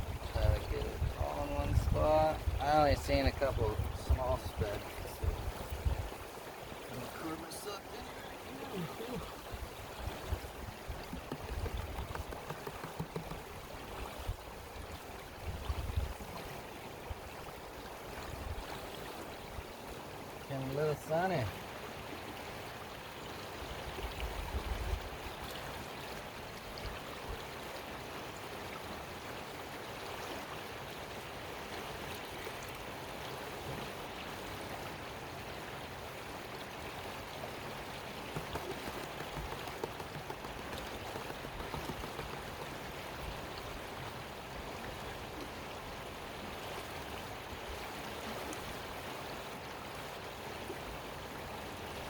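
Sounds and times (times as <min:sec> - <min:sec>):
creek water over rocks: 0:00.0 - 0:52.0.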